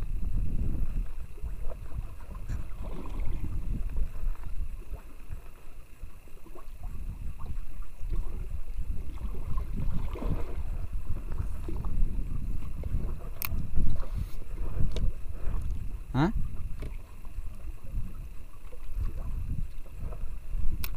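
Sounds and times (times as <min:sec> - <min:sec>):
water lapping against boat hull: 0:00.0 - 0:20.9
wind rumbling on microphone: 0:00.0 - 0:20.9.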